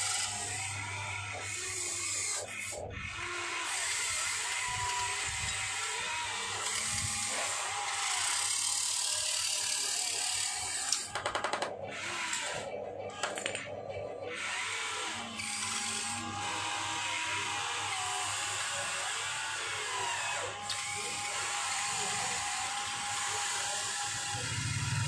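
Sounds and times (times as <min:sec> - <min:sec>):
toy electric motors whirring: 0:00.0 - 0:25.0.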